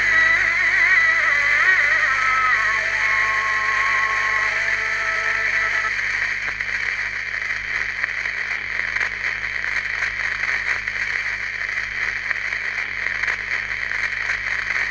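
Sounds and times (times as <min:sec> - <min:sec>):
record surface hiss and crackle: 0:00.0 - 0:14.9.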